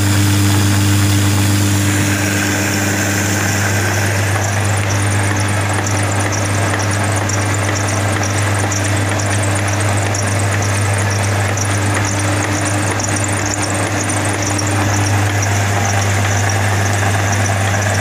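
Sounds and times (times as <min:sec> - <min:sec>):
flour mill motor hum: 0:00.0 - 0:18.0
hissing grinding noise: 0:00.0 - 0:18.0
rapid high fluttering rasp: 0:00.0 - 0:18.0.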